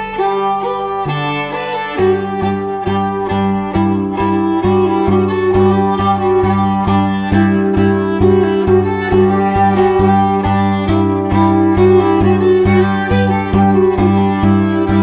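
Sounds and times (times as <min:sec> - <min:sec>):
fiddle playing folk melody: 0:00.0 - 0:15.0
string drum struck with stick: 0:00.0 - 0:15.0.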